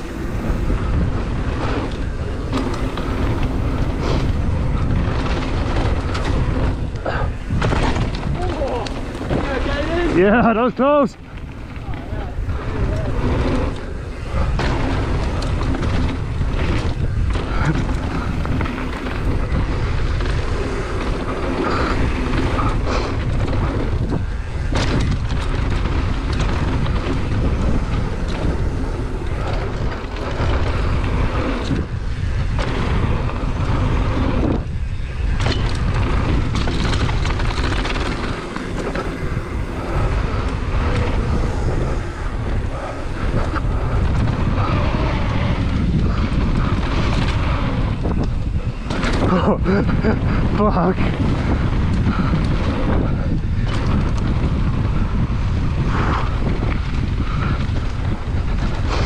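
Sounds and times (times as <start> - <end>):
bike rattling and knocking: 0.0 - 59.0
tyres rolling on dirt and gravel: 0.0 - 59.0
wind rushing over microphone: 0.0 - 59.0.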